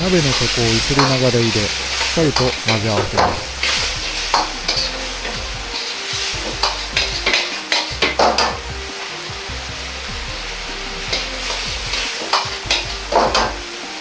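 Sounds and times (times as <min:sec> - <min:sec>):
food sizzling: 0:00.0 - 0:14.0
metal ladle scraping a wok: 0:00.1 - 0:08.6, 0:10.4 - 0:13.6.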